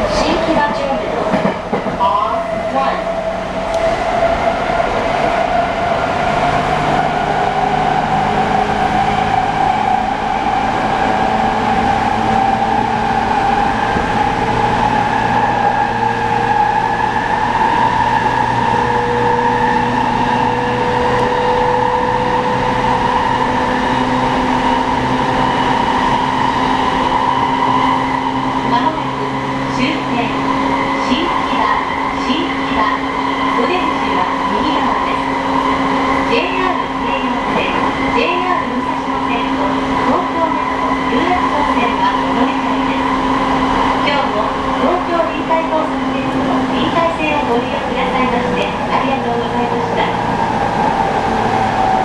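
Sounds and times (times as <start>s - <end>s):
rail running noise: 0.0s - 52.0s.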